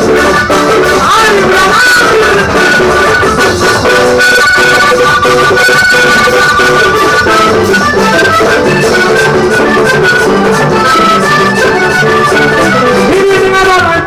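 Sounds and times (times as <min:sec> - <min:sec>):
live latin band music: 0:00.0 - 0:14.0
plucked string instrument: 0:00.0 - 0:14.0.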